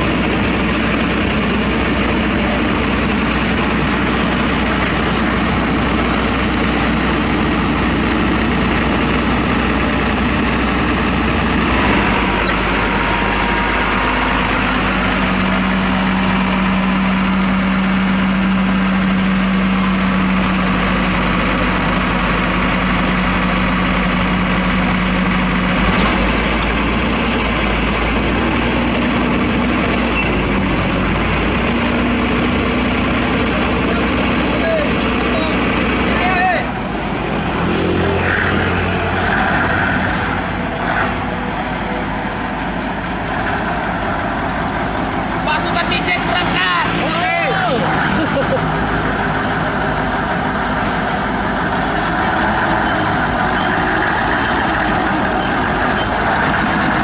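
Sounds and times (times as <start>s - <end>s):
heavy diesel engines idling: 0.0s - 57.0s.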